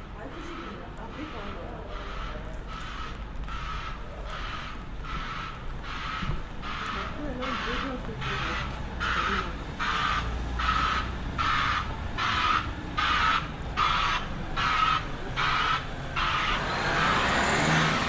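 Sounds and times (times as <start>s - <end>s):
low traffic rumble: 0.0s - 18.0s
reversing alarm beeping: 0.3s - 18.0s.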